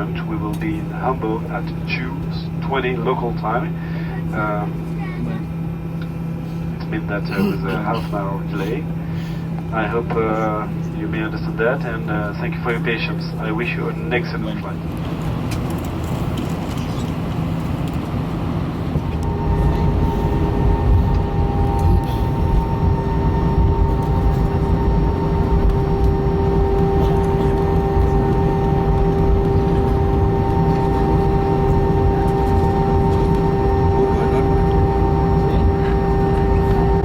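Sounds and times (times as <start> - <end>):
airliner cabin rumble: 0.0 - 37.0
steady multi-pitch whine: 0.0 - 37.0.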